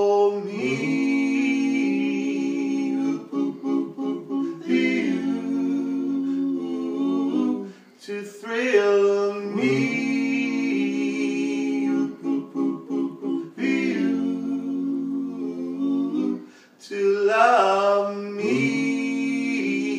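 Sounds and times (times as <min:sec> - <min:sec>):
men singing in harmony: 0:00.0 - 0:19.9.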